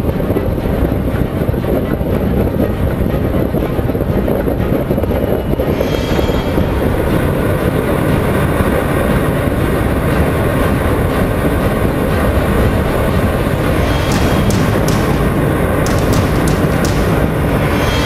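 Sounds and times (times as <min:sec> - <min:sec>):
wind rumble on camera: 0:00.0 - 0:16.2.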